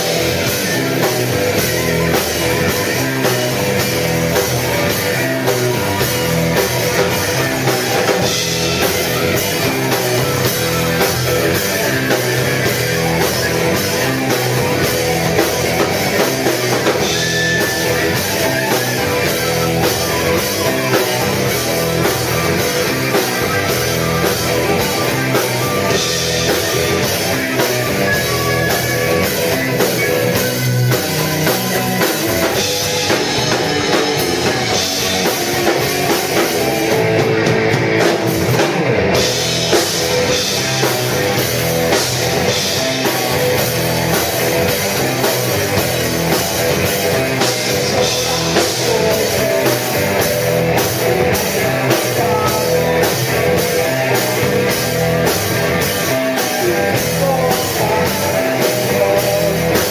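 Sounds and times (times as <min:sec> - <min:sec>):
drum kit with cymbals: 0:00.0 - 0:59.9
electric bass: 0:00.0 - 0:59.9
electric guitars: 0:00.0 - 0:59.9.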